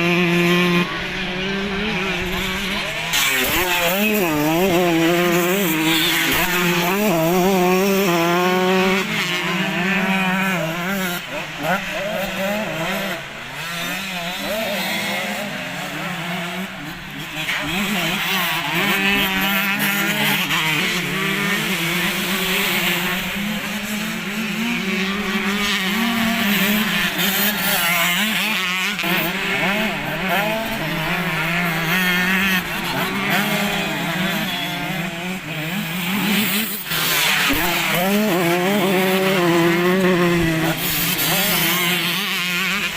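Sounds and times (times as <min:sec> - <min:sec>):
motocross bikes revving: 0:00.0 - 0:42.9.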